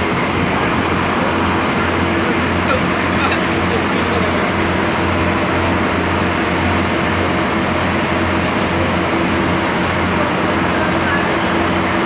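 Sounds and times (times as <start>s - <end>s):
boat engine drone: 0.0s - 12.0s
heavy rain: 0.0s - 12.0s
river water: 0.0s - 12.0s.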